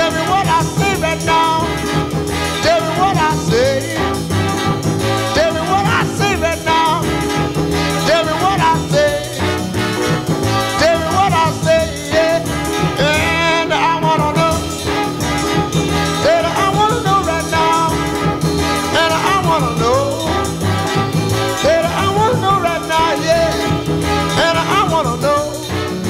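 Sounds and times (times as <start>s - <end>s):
rhythm and blues music with brass: 0.0s - 26.0s.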